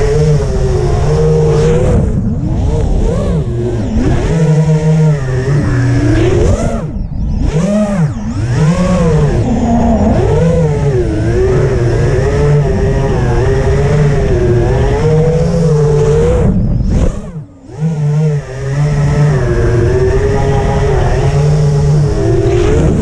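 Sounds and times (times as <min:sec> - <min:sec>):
quadcopter motors buzzing: 0:00.0 - 0:23.0.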